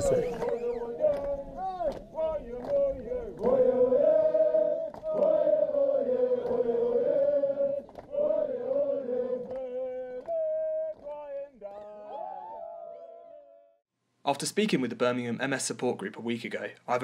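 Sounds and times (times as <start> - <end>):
crowd chanting: 0.0 - 13.8.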